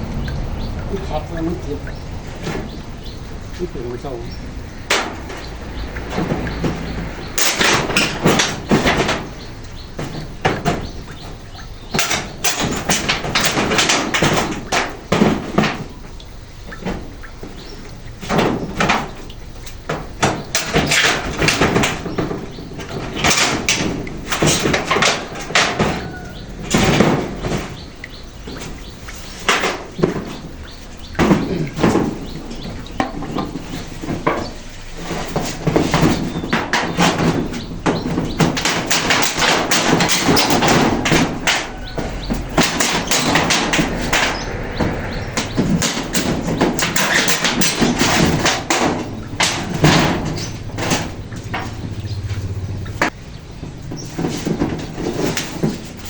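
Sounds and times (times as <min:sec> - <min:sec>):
knocks on metal roofing sheets: 0:00.0 - 0:56.0.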